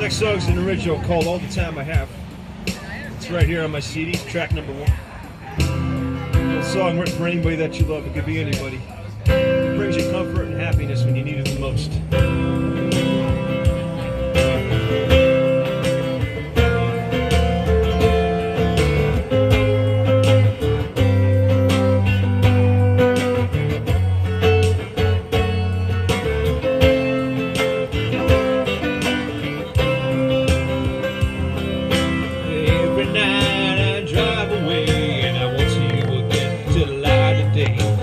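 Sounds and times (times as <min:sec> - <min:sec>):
guitar strummed: 0:00.0 - 0:38.0.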